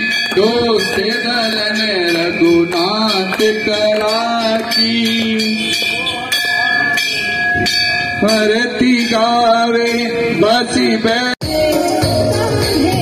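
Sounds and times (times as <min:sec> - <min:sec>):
temple bells ringing: 0:00.0 - 0:11.4.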